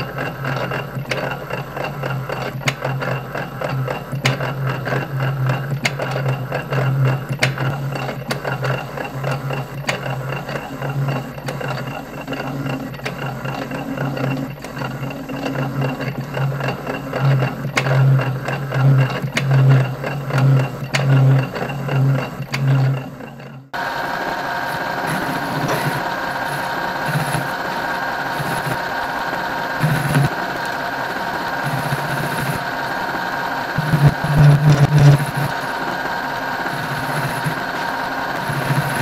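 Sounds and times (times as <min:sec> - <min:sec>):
metal lathe humming: 0:00.0 - 0:39.0.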